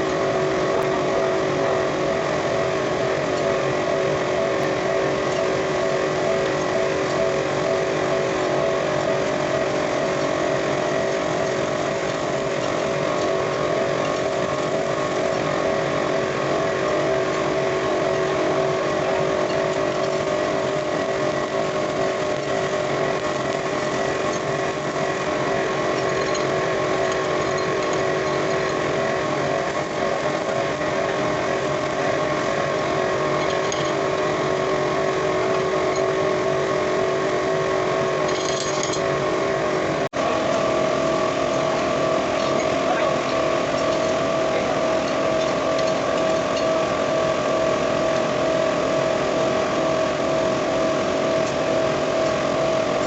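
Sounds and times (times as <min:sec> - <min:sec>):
machinery motor hum: 0:00.0 - 0:53.0.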